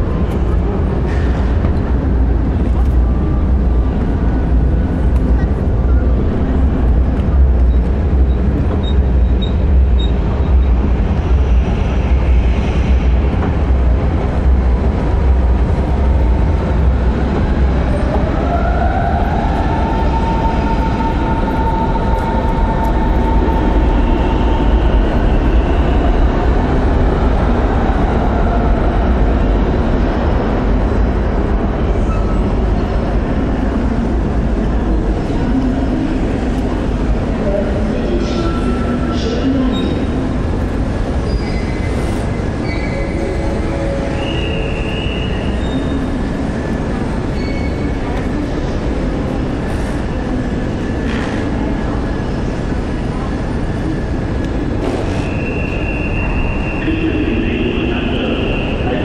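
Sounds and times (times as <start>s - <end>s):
electric train rumbling: 0.0s - 59.0s.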